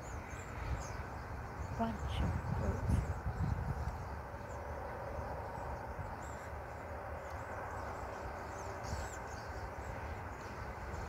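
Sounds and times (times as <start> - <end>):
small birds chirping: 0.0 - 11.0
steady low rumble: 0.1 - 11.0.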